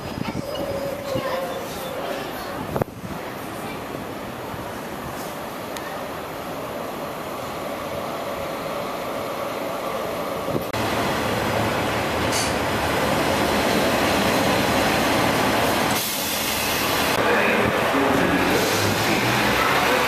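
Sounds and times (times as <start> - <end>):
diesel trains rumbling: 0.0 - 20.0.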